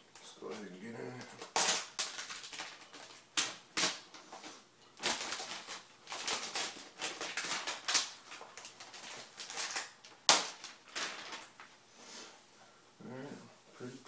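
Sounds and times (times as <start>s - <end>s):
plastic wrap crinkling: 0.1s - 11.8s.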